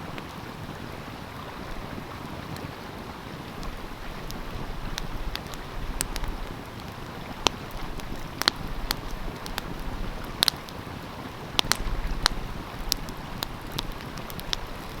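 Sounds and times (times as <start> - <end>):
stream flowing: 0.0 - 15.0
wood fire crackling and popping: 0.1 - 15.0.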